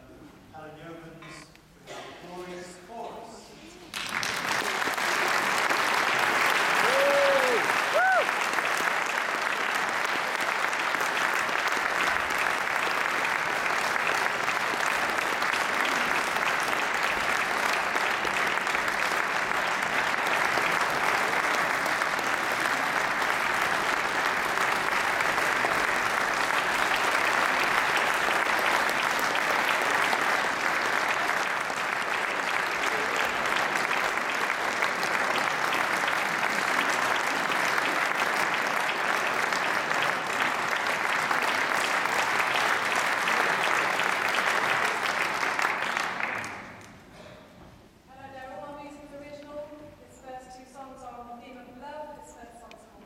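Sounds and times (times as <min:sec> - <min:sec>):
audience applauding: 0:03.9 - 0:47.0.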